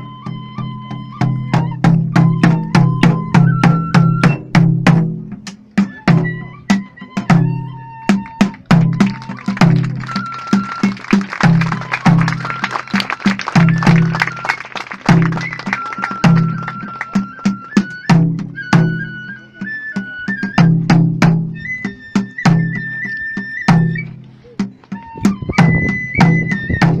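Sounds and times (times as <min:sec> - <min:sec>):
transverse flute high notes: 0:00.0 - 0:04.6, 0:05.8 - 0:20.9, 0:21.5 - 0:27.0
rapid drum beats: 0:01.3 - 0:19.2, 0:20.3 - 0:27.0.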